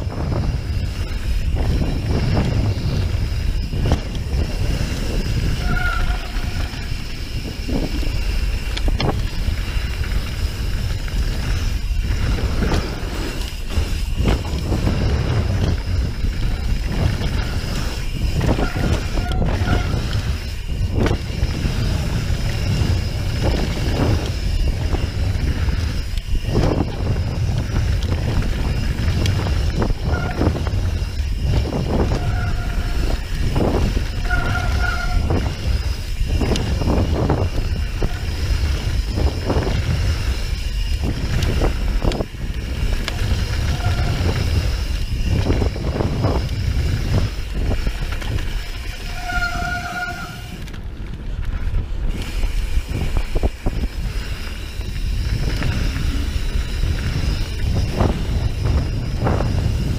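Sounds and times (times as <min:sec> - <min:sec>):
bike tyres rumbling on dirt: 0:00.0 - 0:59.9
wind buffeting microphone: 0:00.0 - 0:59.9
disc brakes squealing: 0:00.4 - 0:50.8.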